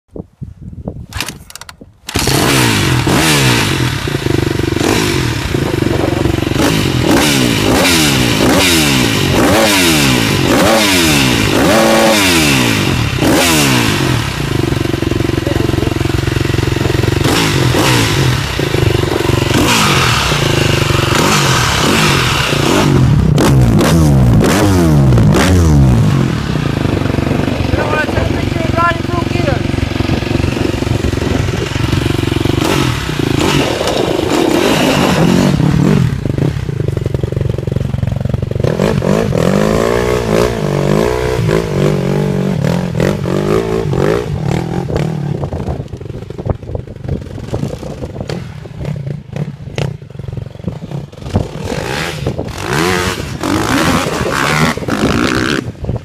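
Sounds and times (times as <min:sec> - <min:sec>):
motorcycle engine revving: 0:01.1 - 0:56.0.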